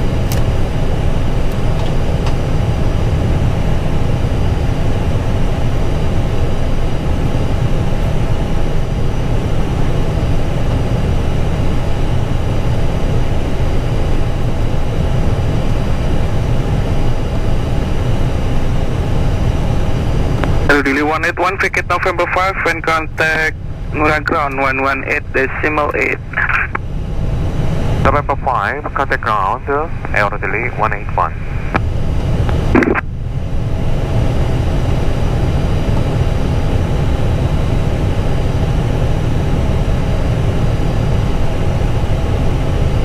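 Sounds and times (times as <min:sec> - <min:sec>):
aircraft cockpit engine rumble: 0:00.0 - 0:43.0
steady hums: 0:00.0 - 0:43.0.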